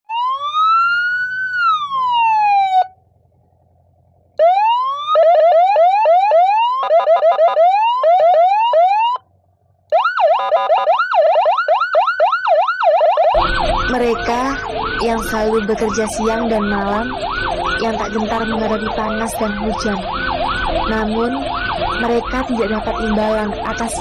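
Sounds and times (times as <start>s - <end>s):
emergency vehicle siren: 0.1s - 3.0s, 4.4s - 9.2s, 9.9s - 24.0s.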